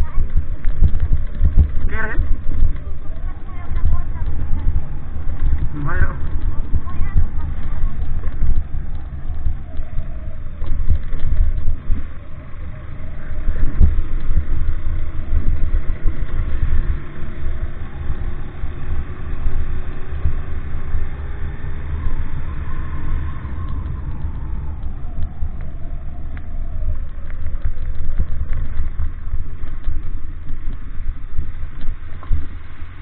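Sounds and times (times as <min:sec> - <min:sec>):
vehicle engine rumbling: 0:00.0 - 0:33.0
vehicle on rough road: 0:00.0 - 0:33.0.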